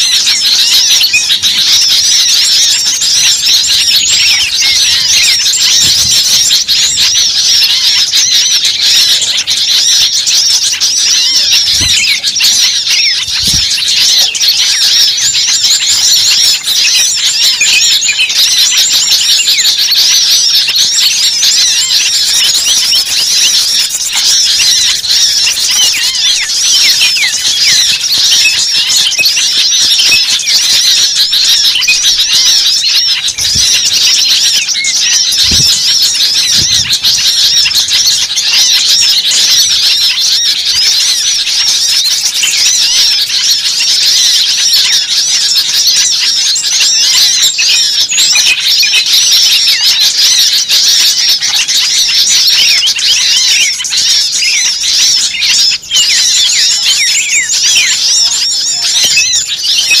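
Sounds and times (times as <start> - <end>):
small birds chattering and squeaking: 0.0 - 60.0.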